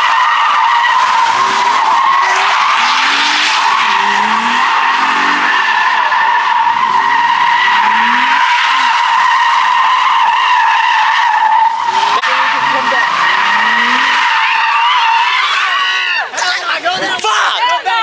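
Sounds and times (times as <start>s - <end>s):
car tyres screeching: 0.0s - 18.0s.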